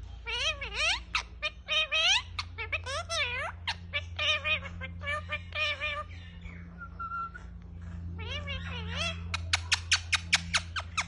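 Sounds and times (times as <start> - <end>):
parakeet chirps: 0.0 - 11.0
parakeet talking: 0.0 - 11.0.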